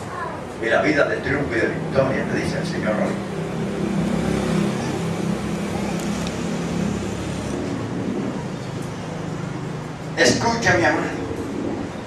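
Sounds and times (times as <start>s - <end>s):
vehicle engine running: 1.0s - 12.0s.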